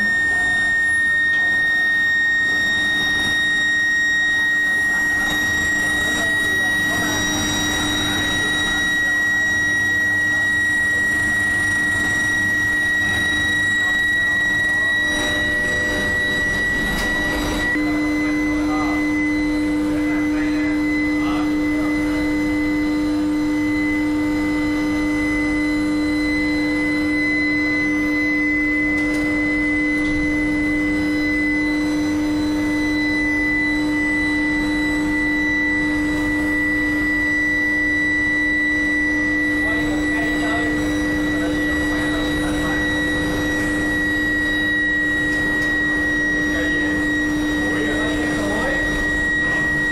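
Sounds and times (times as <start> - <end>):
electrical hum: 0.0 - 49.9
high constant whine: 0.0 - 49.9.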